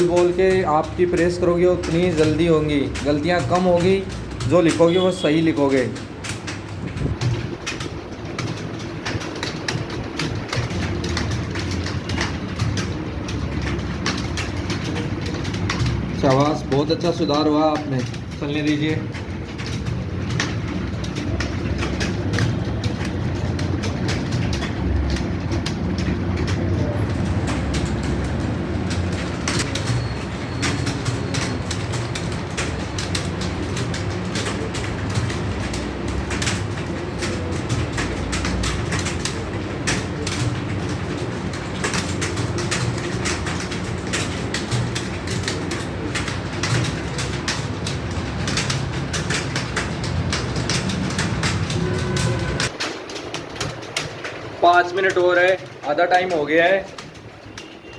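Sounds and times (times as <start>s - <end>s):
computer keyboards typing: 0.0s - 57.9s.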